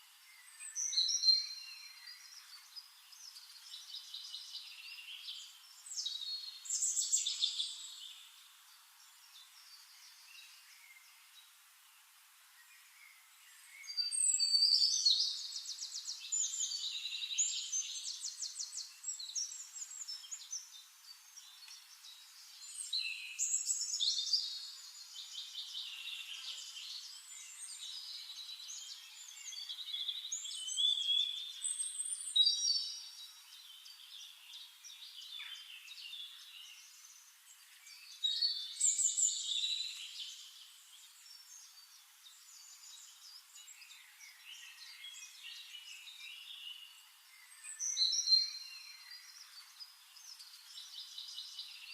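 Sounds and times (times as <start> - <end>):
songbird singing trills: 0.2 - 11.5, 12.6 - 51.9.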